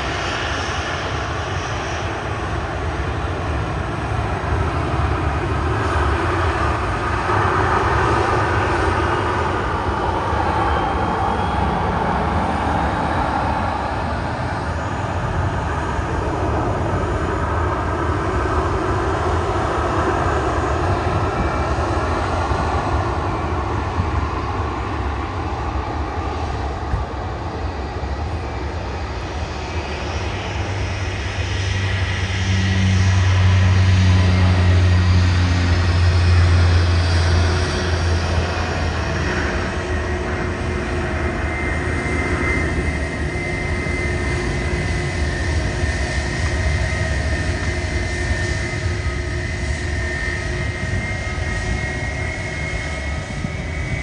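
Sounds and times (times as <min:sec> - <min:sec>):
jet engines at takeoff thrust: 0:00.0 - 0:54.0.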